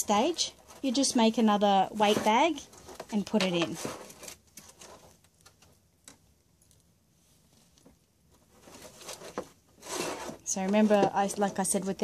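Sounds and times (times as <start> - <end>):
stuffing rustling: 0.0 - 5.8, 7.4 - 12.0.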